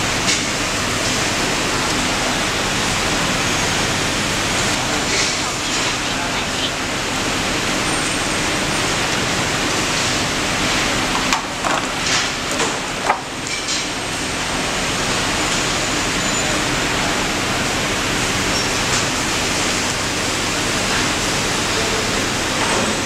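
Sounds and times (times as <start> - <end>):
workshop hiss: 0.0 - 23.0.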